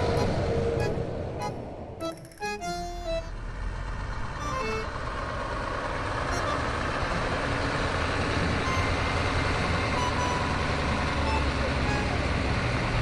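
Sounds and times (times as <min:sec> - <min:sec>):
truck engine rumble and hiss: 0:00.0 - 0:13.0.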